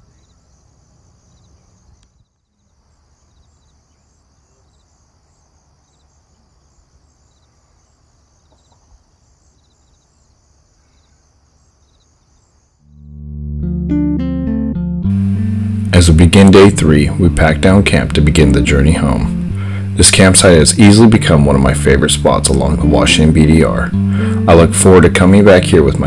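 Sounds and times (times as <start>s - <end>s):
insect chorus: 0.0s - 13.1s, 15.2s - 26.0s
insects chirping trills: 0.0s - 13.2s, 15.2s - 26.0s.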